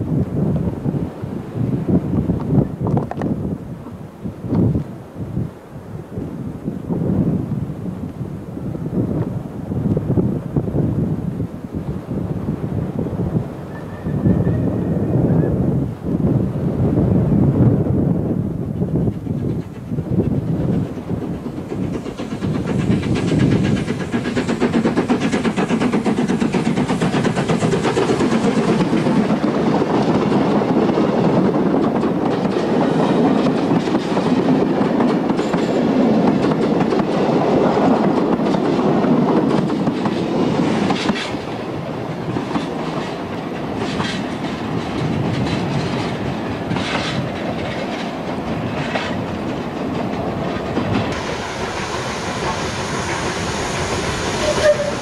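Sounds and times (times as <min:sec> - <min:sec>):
steam train passing: 0:00.0 - 0:55.0.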